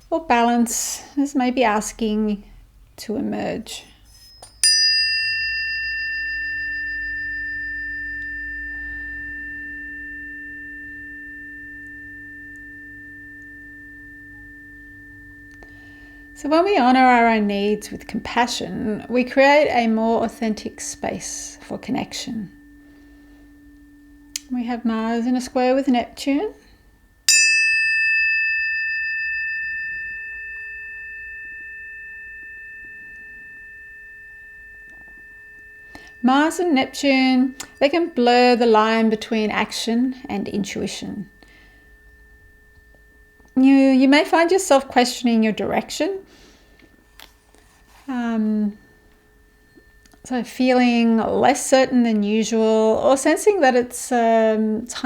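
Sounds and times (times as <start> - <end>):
tuning forks ringing: 1.7 - 55.0.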